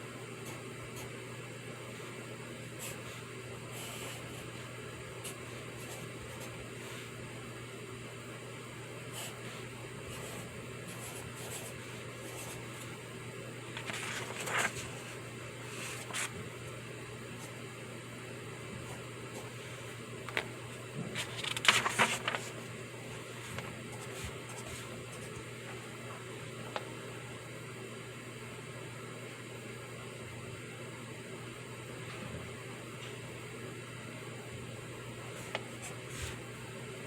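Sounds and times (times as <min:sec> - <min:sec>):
room hum and hiss: 0:00.0 - 0:37.0.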